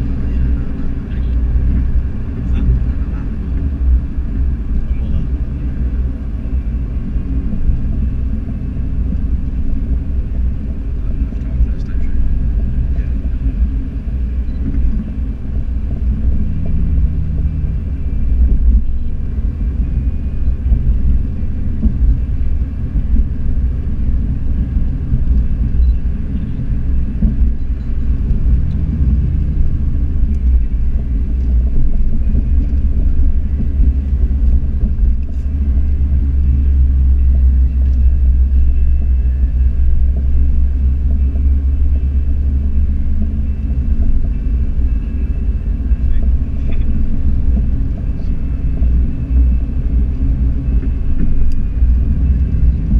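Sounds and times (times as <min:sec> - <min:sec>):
car engine rumbling: 0:00.0 - 0:52.9
road noise inside car: 0:00.0 - 0:52.9.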